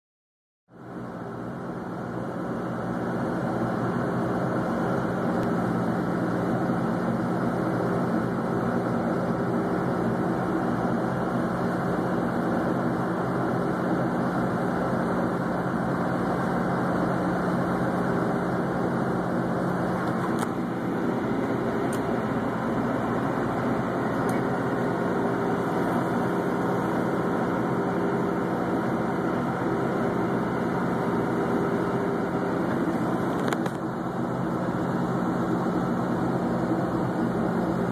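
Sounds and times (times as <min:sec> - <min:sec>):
boat diesel engine droning: 0:00.7 - 0:37.9.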